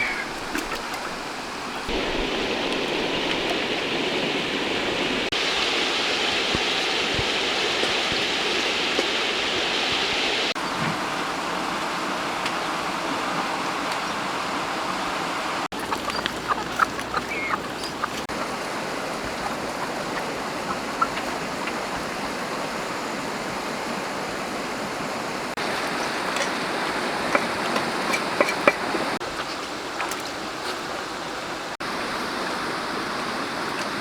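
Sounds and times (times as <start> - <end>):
forest stream rushing: 0.0 - 34.0.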